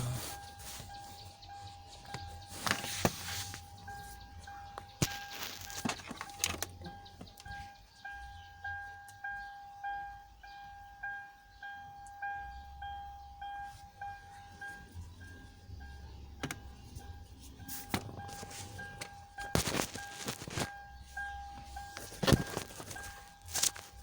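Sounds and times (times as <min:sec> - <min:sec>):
car warning beep: 0:00.0 - 0:24.0.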